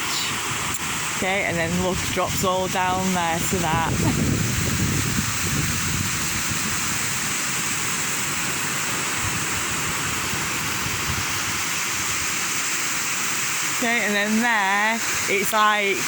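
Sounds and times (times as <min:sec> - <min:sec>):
water rushing under bridge: 0:00.0 - 0:16.0.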